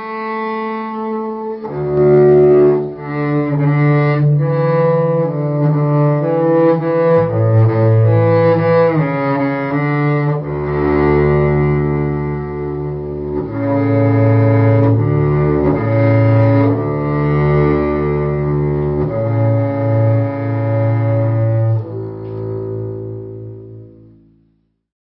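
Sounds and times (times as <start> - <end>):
slow bowed cello music: 0.0 - 24.8.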